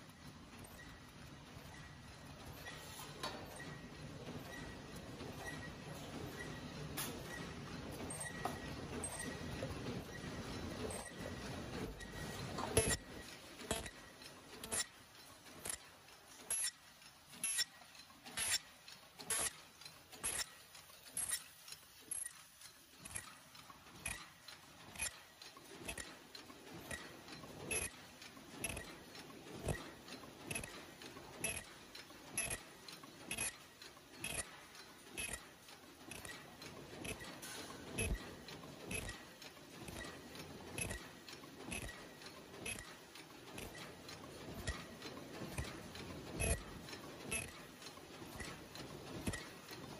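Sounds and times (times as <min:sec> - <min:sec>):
light mechanical ticks: 0:00.0 - 0:49.9
machine knocking rhythmically: 0:03.5 - 0:49.9.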